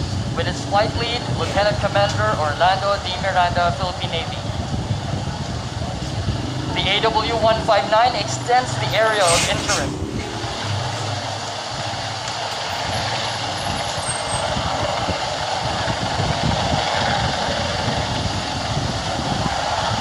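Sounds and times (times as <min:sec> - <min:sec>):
helicopter flying past: 0:00.0 - 0:20.0.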